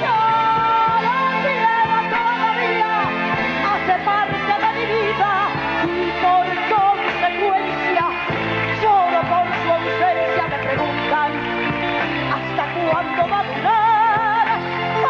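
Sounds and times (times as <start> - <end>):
live orchestra: 0.0 - 15.0
woman singing a ballad: 0.0 - 15.0.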